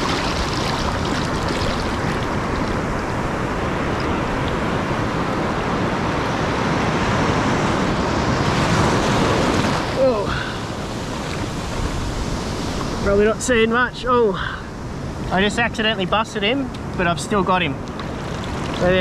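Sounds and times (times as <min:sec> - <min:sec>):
surf washing over sand: 0:00.0 - 0:19.0.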